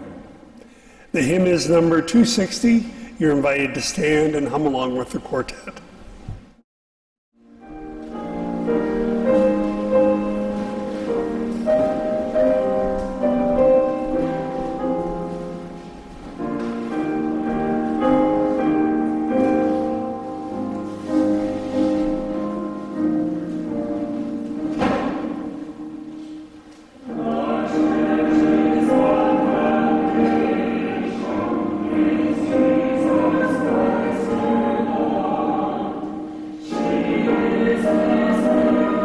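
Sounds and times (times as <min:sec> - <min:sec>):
piano playing hymn chords: 0:07.4 - 0:39.0.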